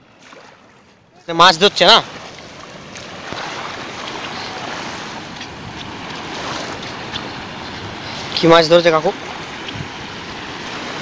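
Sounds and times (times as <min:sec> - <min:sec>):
river water lapping: 0:00.0 - 0:11.0.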